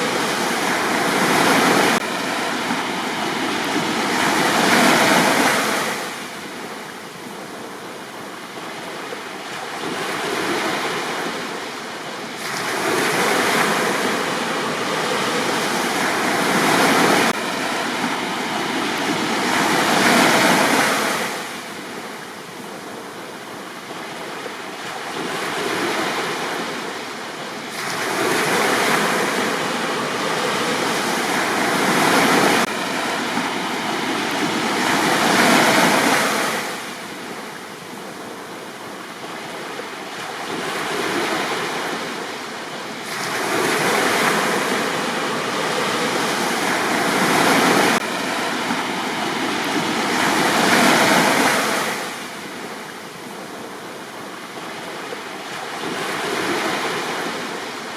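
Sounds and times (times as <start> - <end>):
sea waves breaking on beach: 0.0 - 57.9.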